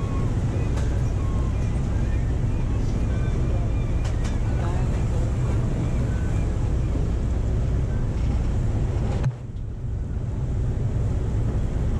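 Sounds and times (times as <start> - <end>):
boat engine drone: 0.0 - 11.9.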